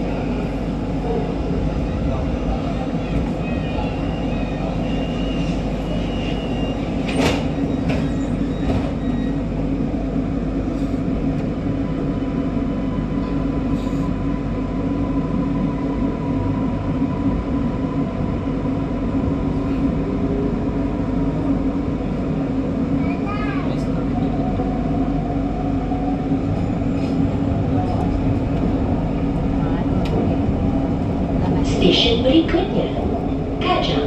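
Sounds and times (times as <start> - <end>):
metro train rumbling on track: 0.0 - 34.0.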